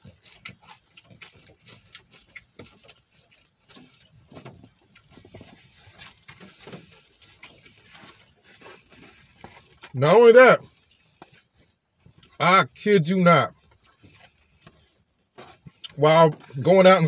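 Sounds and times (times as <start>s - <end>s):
man chewing food: 0.0s - 12.4s, 13.4s - 16.7s.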